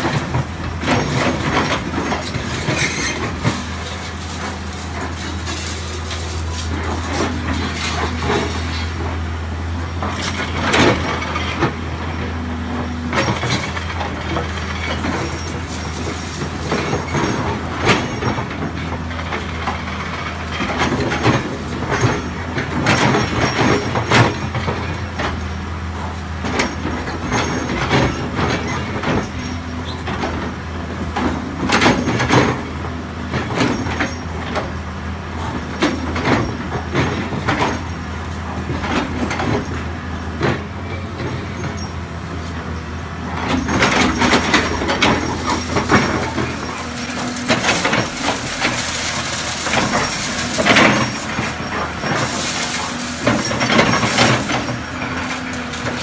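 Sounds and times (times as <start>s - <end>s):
concrete crunching and clanking: 0.0s - 56.0s
diesel engine running: 0.0s - 56.0s.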